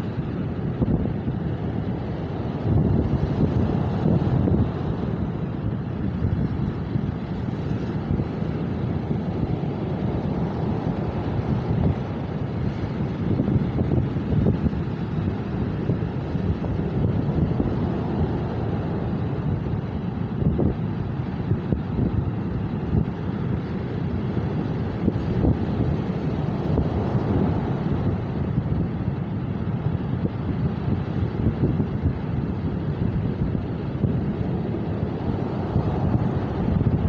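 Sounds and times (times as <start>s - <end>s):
strong wind buffeting microphone: 0.0s - 37.0s.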